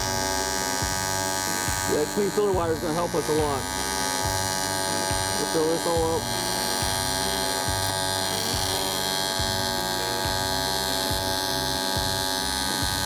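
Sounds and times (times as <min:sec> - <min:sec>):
welding arc buzzing: 0:00.0 - 0:13.0.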